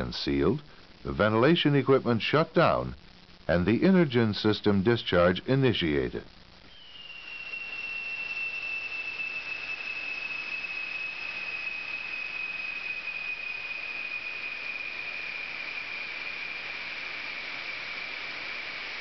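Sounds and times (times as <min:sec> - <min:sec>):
gas hissing with high whistle: 0:00.0 - 0:19.0.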